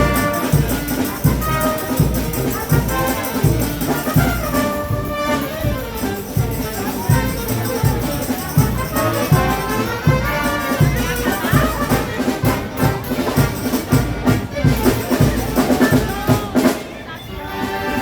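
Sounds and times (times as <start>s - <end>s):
bass drum beating: 0.0s - 16.6s
brass and percussion orchestra: 0.0s - 18.0s.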